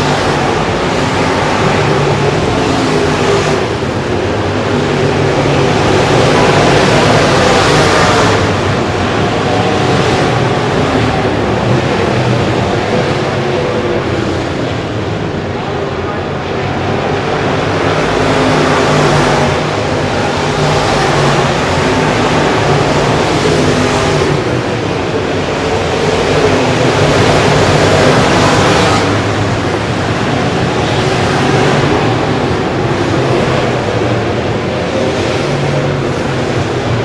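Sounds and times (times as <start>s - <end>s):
race car engines running hard: 0.0s - 37.0s.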